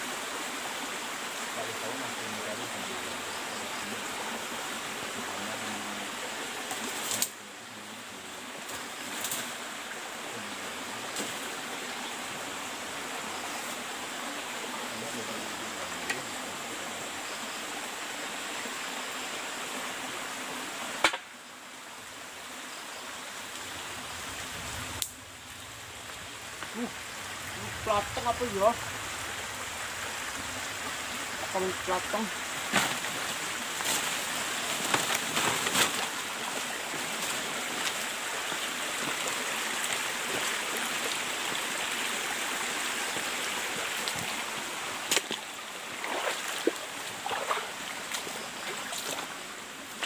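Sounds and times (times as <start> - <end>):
stream running water: 0.0 - 50.0.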